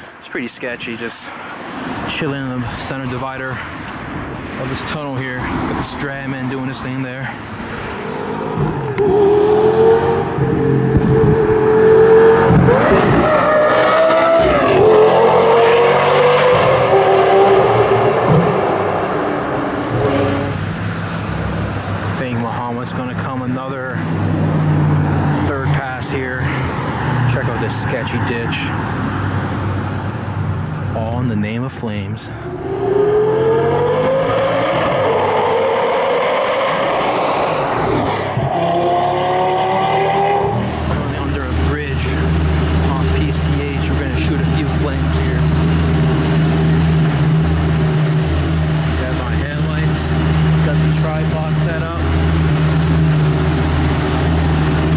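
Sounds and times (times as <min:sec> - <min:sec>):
car engine revving in tunnel: 0:05.5 - 0:27.9, 0:32.4 - 0:54.9.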